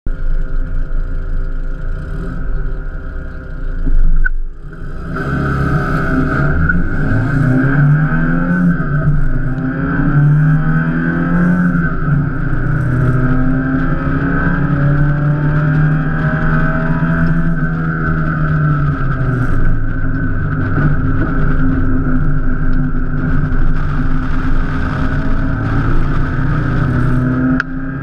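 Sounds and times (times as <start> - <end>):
sports car engine accelerating: 0.1 - 28.0.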